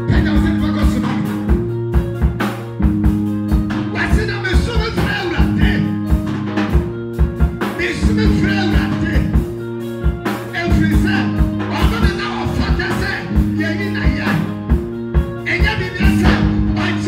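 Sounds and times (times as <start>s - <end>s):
drum kit beat: 0.0s - 17.0s
held keyboard chords: 0.0s - 17.0s.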